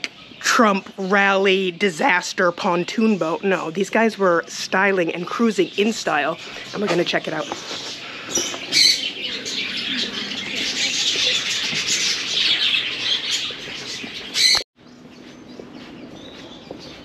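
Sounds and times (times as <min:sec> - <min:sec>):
birds chirping and chattering: 0:00.0 - 0:17.0.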